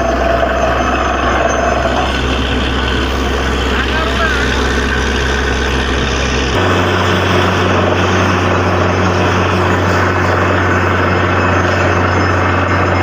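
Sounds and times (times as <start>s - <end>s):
broad rushing noise: 0.0s - 13.0s
drilling rig engine drone: 0.0s - 13.0s.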